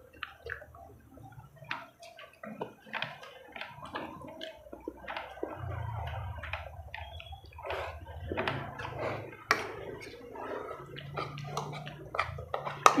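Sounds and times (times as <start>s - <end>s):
slurping and chewing noodles: 0.0s - 13.0s.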